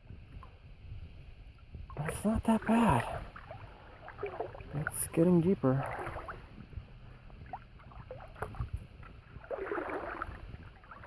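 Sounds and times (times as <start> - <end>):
water swishing around wading legs: 0.0 - 11.0.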